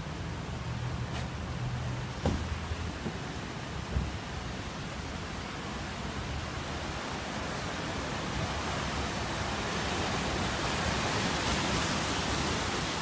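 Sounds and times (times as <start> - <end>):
car driving through floodwater: 0.0 - 13.0.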